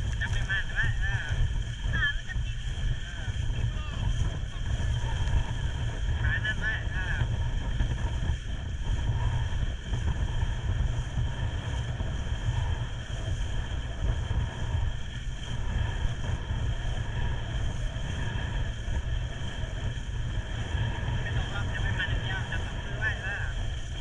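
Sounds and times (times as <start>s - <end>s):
faint engine whine: 0.0s - 24.0s
motorboat engine rumble: 0.0s - 24.0s
wind buffeting microphone: 0.0s - 24.0s.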